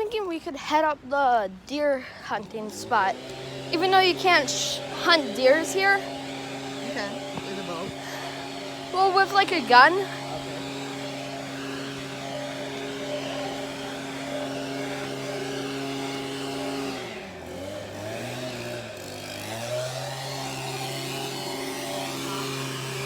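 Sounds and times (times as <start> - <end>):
engine running: 1.6 - 23.0.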